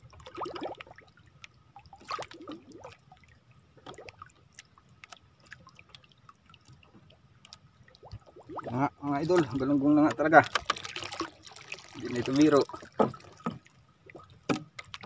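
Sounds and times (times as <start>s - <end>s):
small clicks and splashes: 0.0s - 15.0s
water lapping and dripping: 0.0s - 15.0s.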